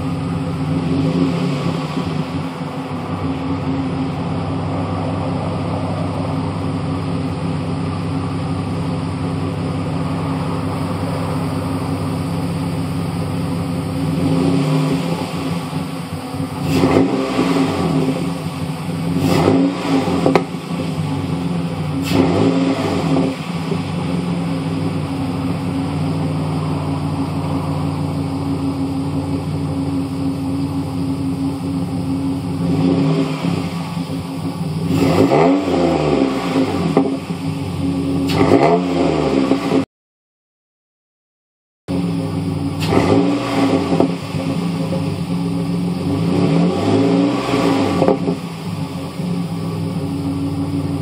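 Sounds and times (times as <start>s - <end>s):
truck engine idling and revving: 0.0s - 39.9s, 41.9s - 51.0s.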